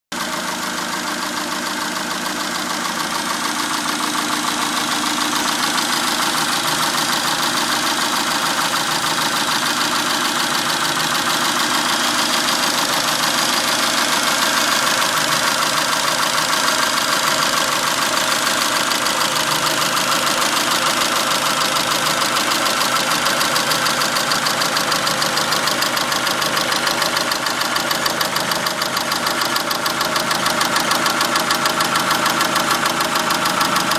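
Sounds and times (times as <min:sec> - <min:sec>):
car engine idling with ticking: 0:00.2 - 0:33.9.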